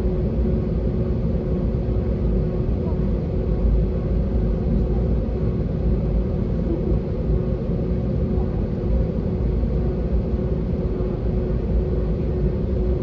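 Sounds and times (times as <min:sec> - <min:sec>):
faint steady hum: 0:00.0 - 0:13.0
jet engines idling low rumble: 0:00.0 - 0:13.0.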